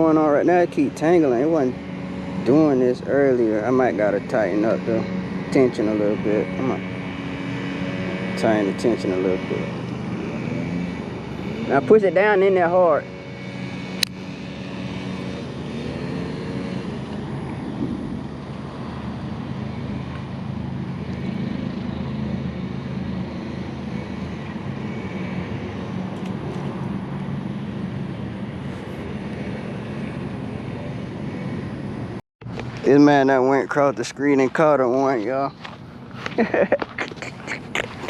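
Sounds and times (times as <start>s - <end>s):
low engine-like drone: 0.0s - 38.0s.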